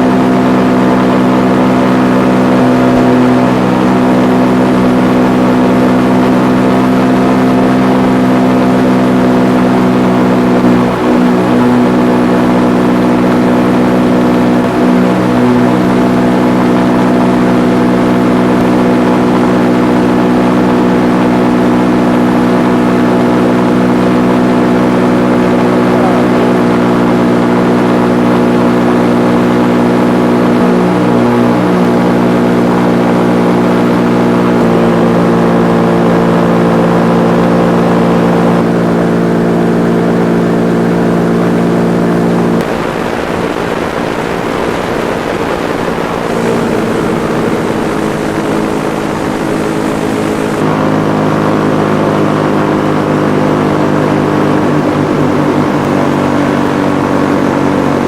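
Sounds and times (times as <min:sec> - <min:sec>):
paramotor engine droning: 0:00.0 - 0:58.0.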